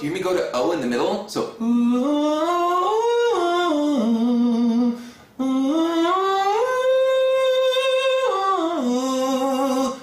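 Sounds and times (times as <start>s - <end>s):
man singing vocal scales: 0.0s - 10.0s.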